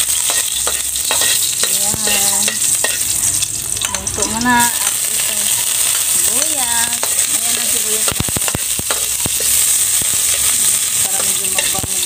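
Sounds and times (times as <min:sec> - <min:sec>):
garlic and onion sizzling: 0:00.0 - 0:12.0.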